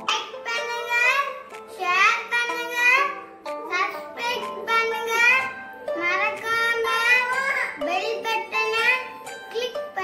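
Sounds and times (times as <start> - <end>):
background music: 0.0 - 10.0
girl singing: 0.1 - 10.0.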